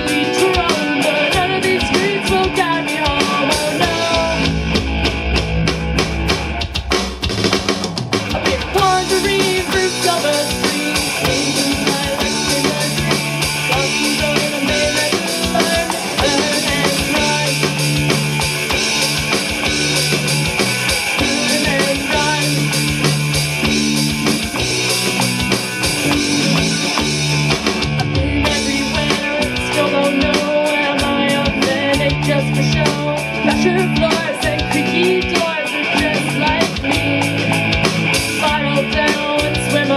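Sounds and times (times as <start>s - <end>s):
alternative rock band playing: 0.0s - 39.9s
bass line: 0.0s - 39.9s
drum kit beat: 0.0s - 39.9s.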